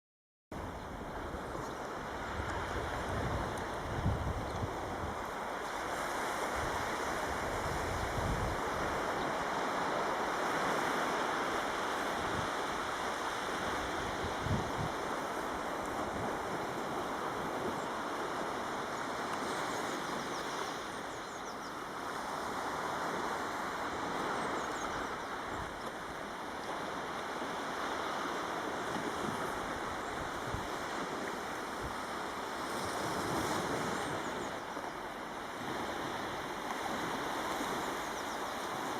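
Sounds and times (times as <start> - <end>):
surf on a beach: 0.6 - 38.9.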